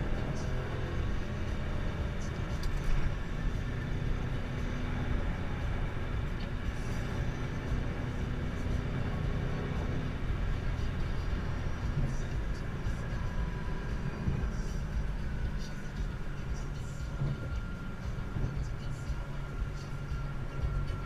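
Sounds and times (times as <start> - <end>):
in-car drone of engine tyres and wind: 0.0 - 21.0.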